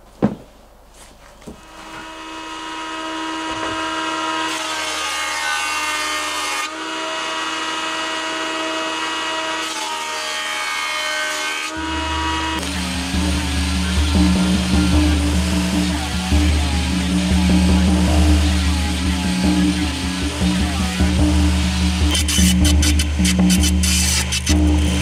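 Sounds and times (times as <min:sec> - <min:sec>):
jointer motor whine: 0:01.6 - 0:10.7, 0:11.5 - 0:25.0
board planing rasp: 0:01.6 - 0:25.0.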